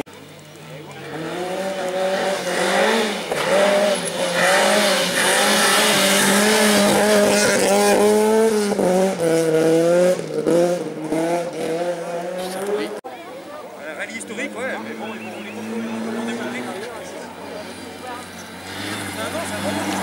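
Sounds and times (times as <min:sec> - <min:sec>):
rally car engine passing: 0:00.2 - 0:13.0, 0:13.8 - 0:20.0.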